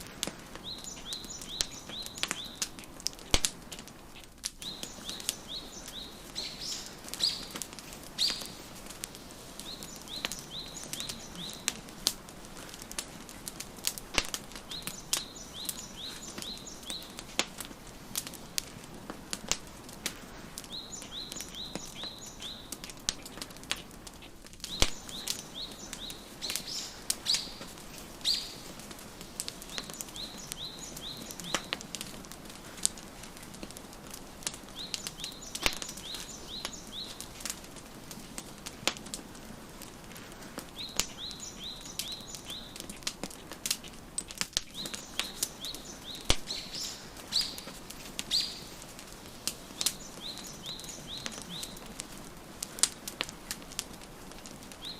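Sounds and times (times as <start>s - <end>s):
songbirds chirping: 0.0s - 54.9s
wood fire crackling and popping: 0.0s - 54.9s.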